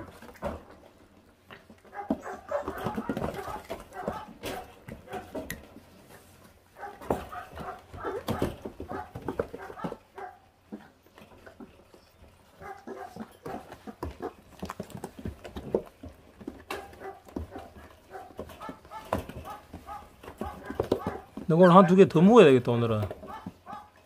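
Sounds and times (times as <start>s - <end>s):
puppies chewing and tearing meat: 0.0s - 24.0s.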